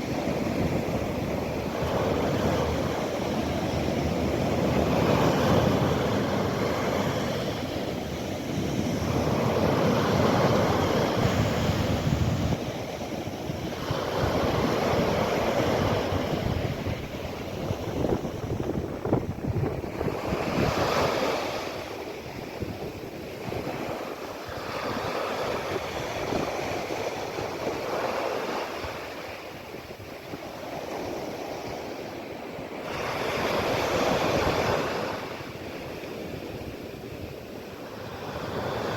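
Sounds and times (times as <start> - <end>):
wind buffeting microphone: 0.0 - 32.0
waves breaking on shore: 0.0 - 38.9.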